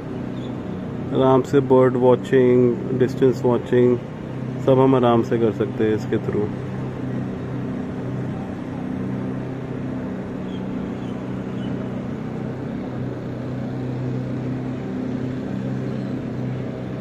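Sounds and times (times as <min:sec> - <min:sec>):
city noise: 0:00.0 - 0:17.0
low mechanical hum: 0:00.0 - 0:17.0.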